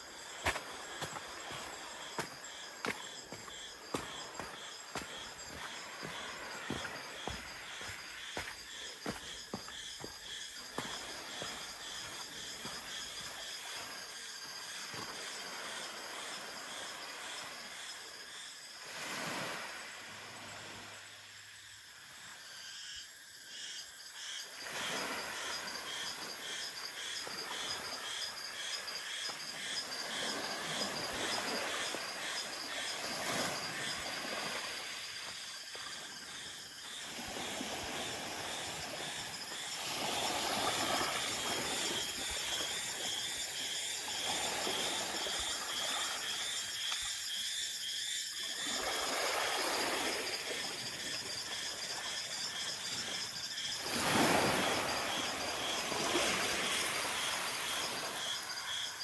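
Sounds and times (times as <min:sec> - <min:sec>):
small waves washing ashore: 0:00.0 - 0:21.3, 0:24.6 - 0:47.2, 0:48.4 - 0:59.0
insects chirping: 0:00.0 - 0:59.0.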